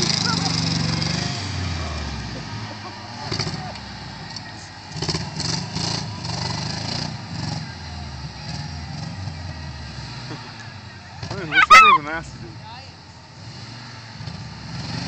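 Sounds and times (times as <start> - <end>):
car engine revving: 0.0 - 15.0
tires on loose gravel: 0.0 - 15.0.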